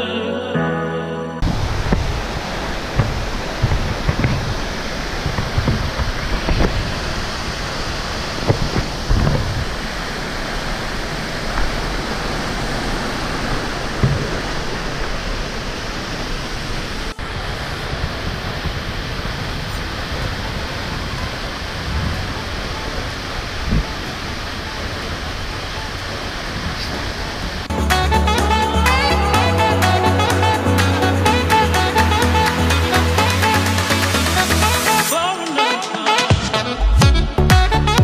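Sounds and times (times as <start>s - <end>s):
low thumps: 1.4s - 33.4s
waterfall rushing: 1.4s - 37.4s.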